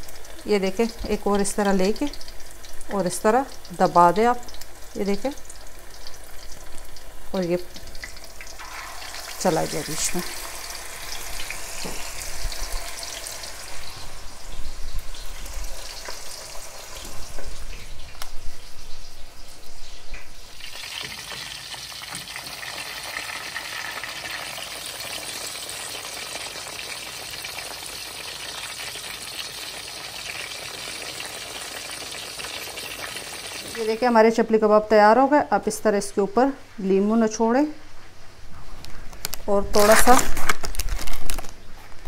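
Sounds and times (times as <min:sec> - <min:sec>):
food sizzling in hot oil: 0:00.0 - 0:34.2.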